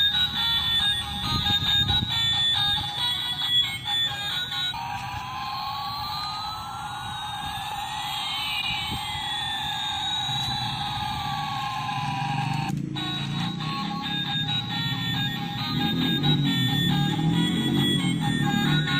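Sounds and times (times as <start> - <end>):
electronic siren-like sweep: 0.0 - 18.9.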